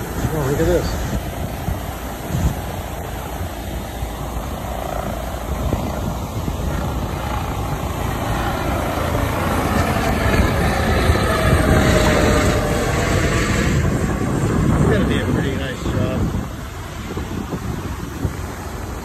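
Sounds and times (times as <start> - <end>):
helicopter passing overhead: 0.0 - 19.0.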